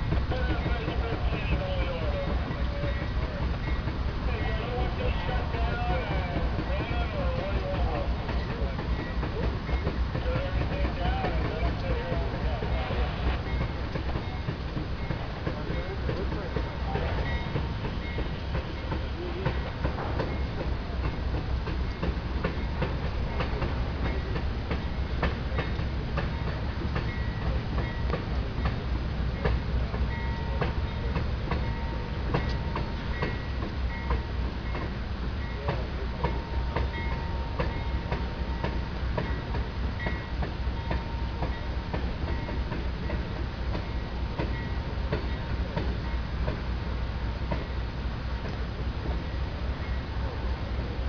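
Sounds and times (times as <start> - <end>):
freight train rumbling over bridge: 0.0 - 51.0
wheels clicking over rail joints: 0.0 - 51.0.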